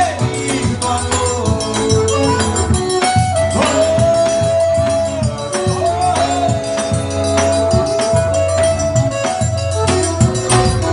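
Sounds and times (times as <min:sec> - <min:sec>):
accordion holding long notes: 0:00.0 - 0:10.9
bass drum beat: 0:00.0 - 0:10.9
rattling percussion: 0:00.0 - 0:10.9.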